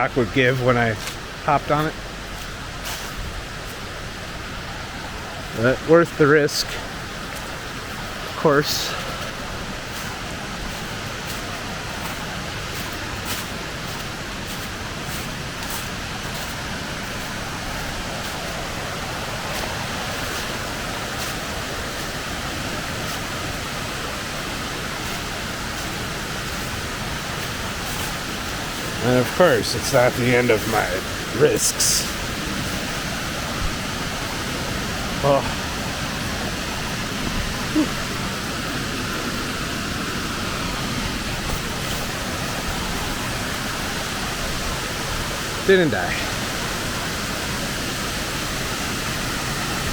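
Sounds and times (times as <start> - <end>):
waterfall and creek rushing: 0.0 - 49.9.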